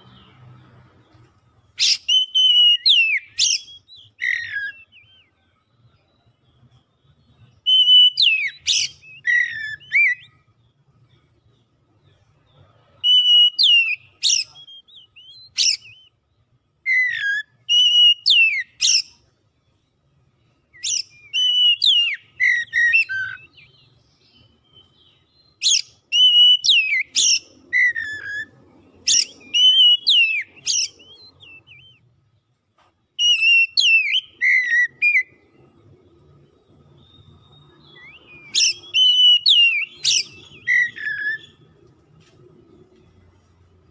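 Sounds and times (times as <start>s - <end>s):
bird singing whistled notes: 0.0s - 32.5s, 33.2s - 42.2s.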